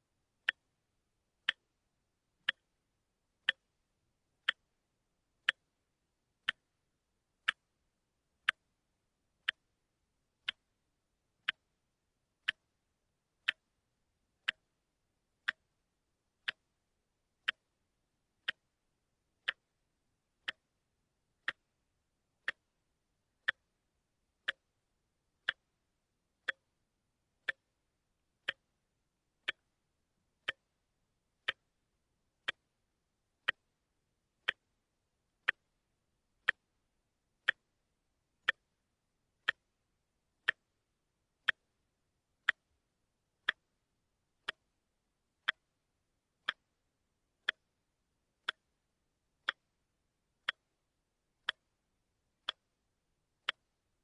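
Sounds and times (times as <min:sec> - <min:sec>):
watch ticking: 0:00.4 - 0:00.8, 0:01.4 - 0:01.8, 0:02.4 - 0:05.8, 0:06.4 - 0:26.8, 0:27.4 - 0:54.0.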